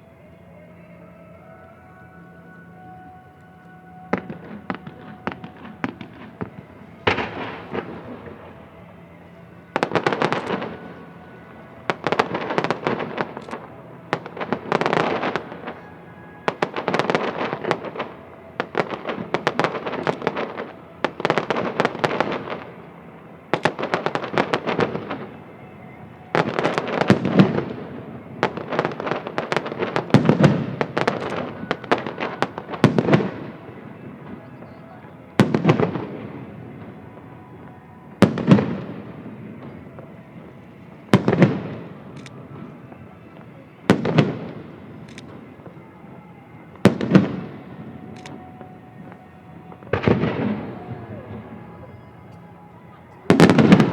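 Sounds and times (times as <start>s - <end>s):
aerial fireworks crackling: 4.1s - 53.9s.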